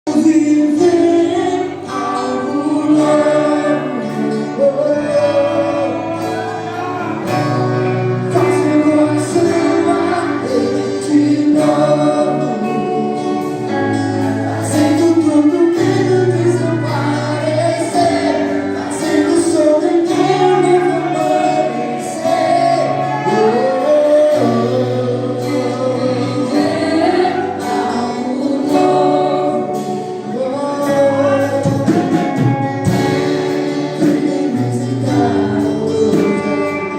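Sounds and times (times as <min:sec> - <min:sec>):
band with bass and beat: 0:00.1 - 0:36.9
group singing worship song: 0:00.1 - 0:36.9.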